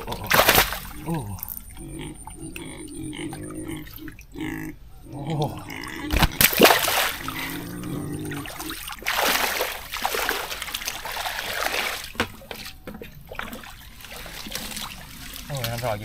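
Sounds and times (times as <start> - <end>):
water splashing and trickling: 0.0 - 4.6, 5.3 - 16.0.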